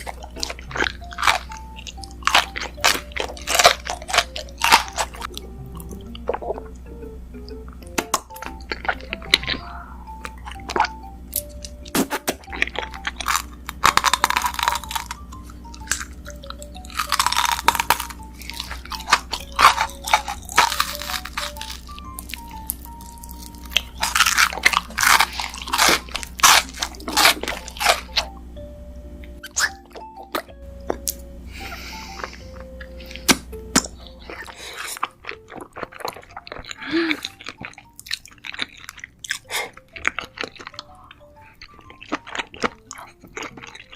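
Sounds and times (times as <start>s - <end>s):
person crunching food: 0.0s - 6.7s, 8.1s - 28.4s, 29.4s - 43.9s
soft background music: 0.0s - 43.9s.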